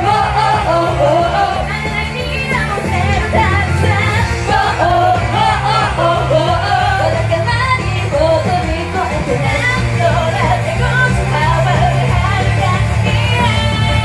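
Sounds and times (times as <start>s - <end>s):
pop song sung live: 0.0s - 14.0s.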